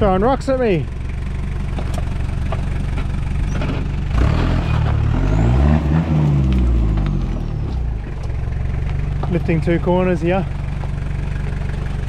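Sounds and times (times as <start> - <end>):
diesel engine pulling uphill: 0.0 - 12.0
stones clicking under tyres: 1.5 - 9.7, 10.5 - 12.0.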